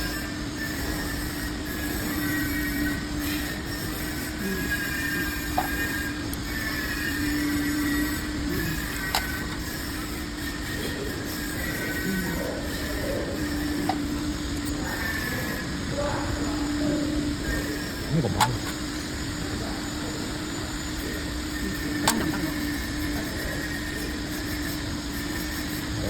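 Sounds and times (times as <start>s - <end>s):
machine humming and whining: 0.0s - 26.0s.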